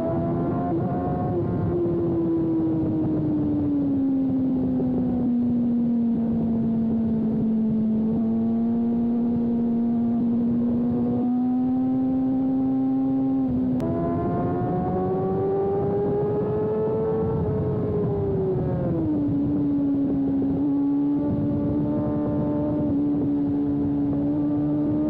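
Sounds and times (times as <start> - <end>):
motorcycle engine at high revs: 0.0 - 25.0
wind rush on microphone: 0.0 - 25.0.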